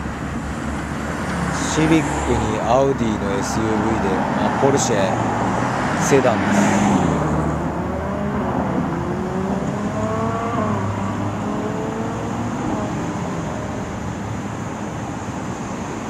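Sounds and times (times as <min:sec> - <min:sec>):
car accelerating: 0:00.0 - 0:14.2
road traffic: 0:00.0 - 0:16.0.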